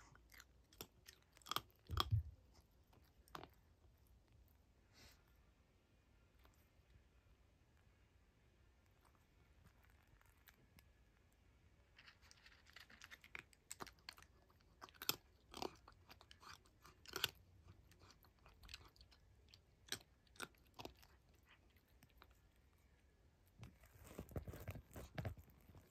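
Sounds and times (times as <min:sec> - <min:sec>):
cat crunching dry kibble: 0:00.0 - 0:04.4, 0:08.8 - 0:25.9.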